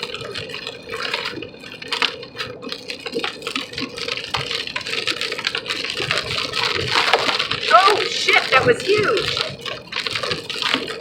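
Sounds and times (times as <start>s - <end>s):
heavy rain on car: 0.0s - 11.0s.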